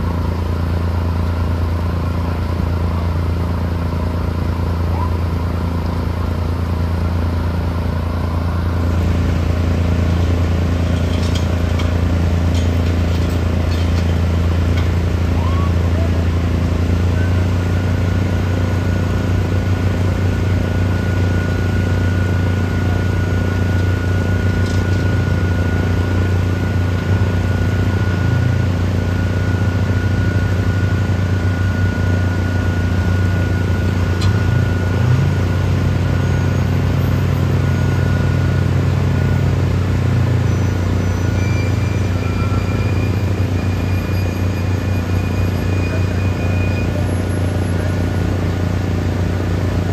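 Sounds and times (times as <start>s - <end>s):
truck engine droning: 0.0s - 49.9s.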